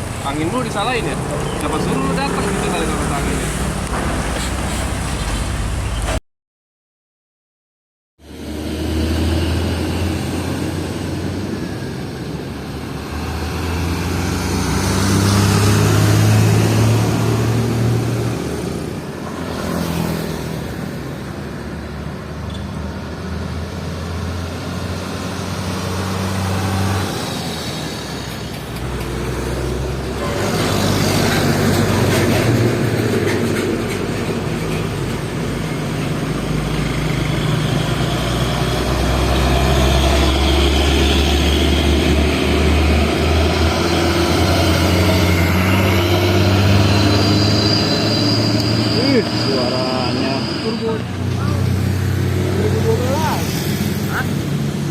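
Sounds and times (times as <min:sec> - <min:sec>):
heavy diesel truck engines: 0:00.0 - 0:06.2, 0:08.2 - 0:54.9
traffic and tyre hiss: 0:00.0 - 0:06.2, 0:08.3 - 0:54.9.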